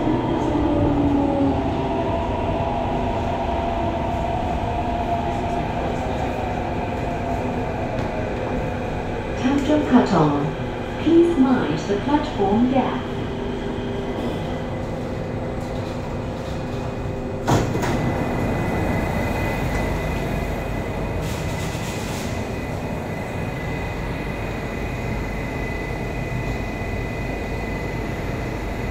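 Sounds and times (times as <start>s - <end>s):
metro train equipment hum: 0.0s - 28.9s.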